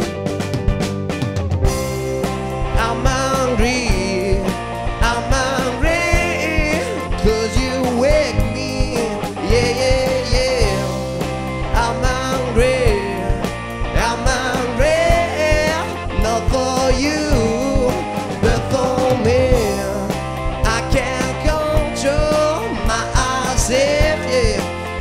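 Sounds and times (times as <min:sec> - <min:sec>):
blues rock band playing: 0:00.0 - 0:25.0
man singing: 0:02.6 - 0:25.0.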